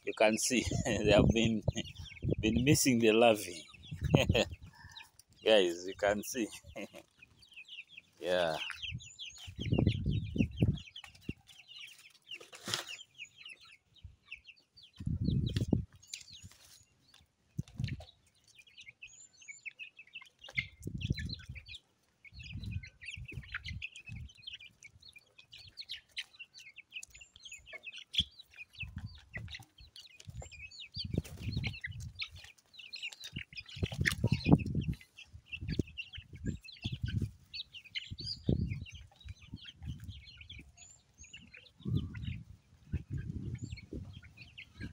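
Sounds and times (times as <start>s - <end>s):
chicks cheeping: 0.0s - 44.9s.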